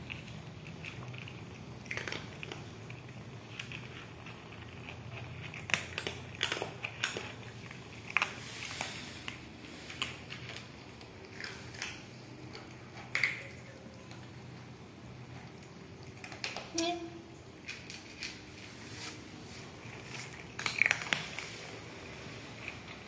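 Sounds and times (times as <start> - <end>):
cats crunching dry kibble: 0.0 - 23.0.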